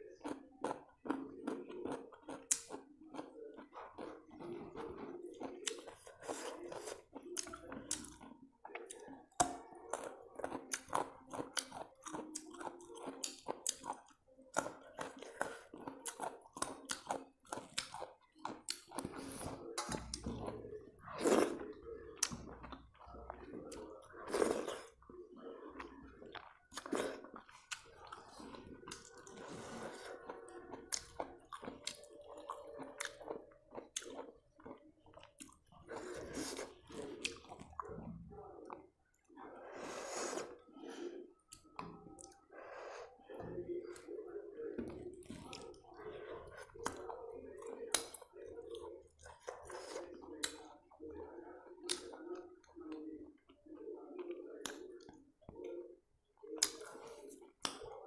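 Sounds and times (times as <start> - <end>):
person chewing with wet mouth sounds: 0.0 - 58.0.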